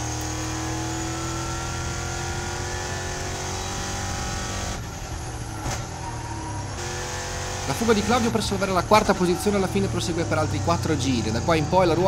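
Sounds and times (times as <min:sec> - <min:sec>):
racing engine at full throttle: 0:00.0 - 0:12.0.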